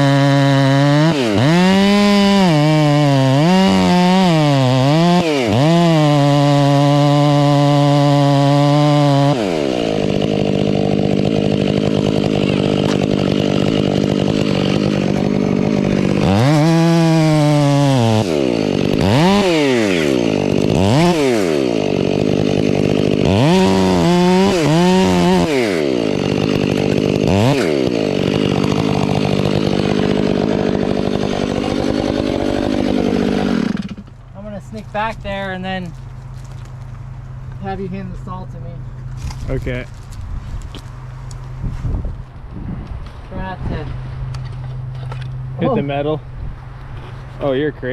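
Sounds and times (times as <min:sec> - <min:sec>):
chainsaw revving: 0:00.0 - 0:41.4.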